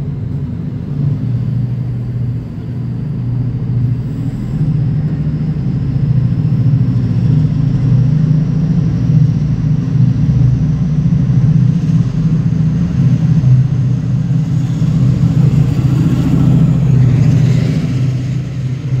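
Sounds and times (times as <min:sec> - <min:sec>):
diesel locomotive engine drone: 0:00.0 - 0:19.0
rumble of passing coaches: 0:00.0 - 0:19.0
train hiss and rush: 0:00.0 - 0:19.0.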